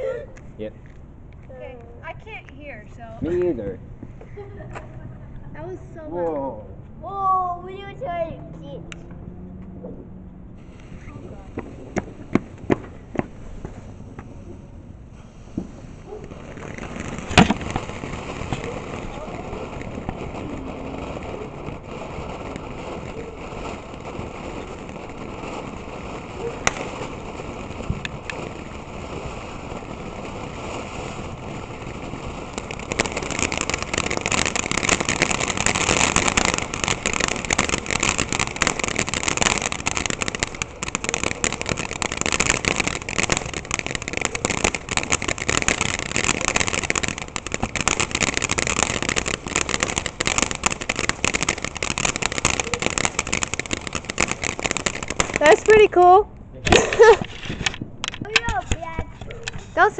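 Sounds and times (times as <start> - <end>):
firework crackling: 0.0 - 59.9
firework fountain hissing: 0.8 - 6.1, 10.5 - 59.9.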